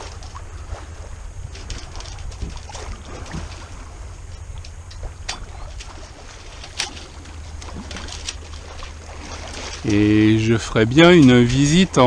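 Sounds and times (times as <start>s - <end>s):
steady low rumble: 0.0s - 12.0s
water moving along hull: 0.0s - 12.0s.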